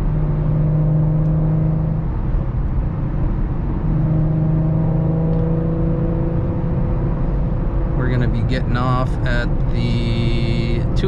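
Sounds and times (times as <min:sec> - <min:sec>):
exhaust drone in car cabin: 0:00.0 - 0:11.0
road noise: 0:00.0 - 0:11.0.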